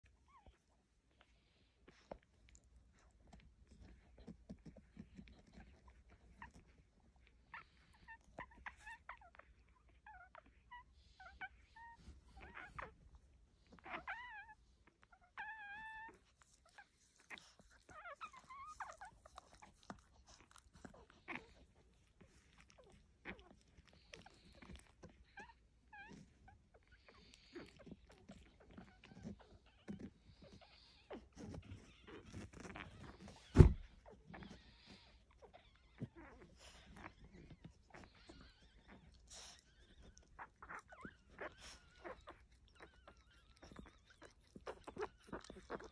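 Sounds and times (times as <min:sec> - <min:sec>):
puppies suckling wet clicking: 0:00.2 - 0:10.8, 0:11.8 - 0:33.2, 0:34.0 - 0:45.9
puppies squeaking and whimpering: 0:03.0 - 0:45.9.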